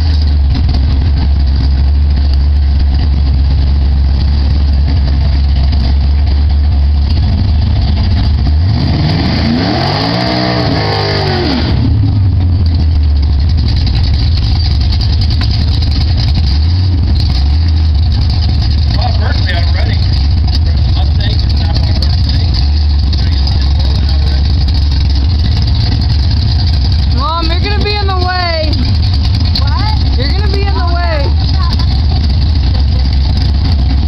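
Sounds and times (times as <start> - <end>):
engine revving: 0.0 - 34.0
race car engines idling: 0.0 - 34.0.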